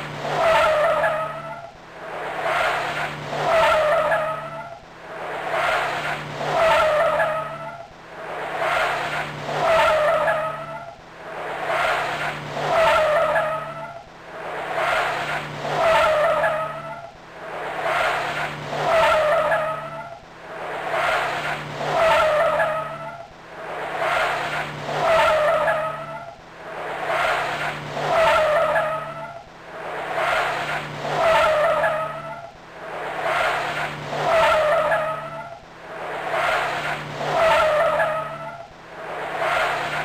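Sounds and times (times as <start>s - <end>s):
car sound pulsing: 0.0s - 40.0s
high squeal-like tone: 0.0s - 40.0s.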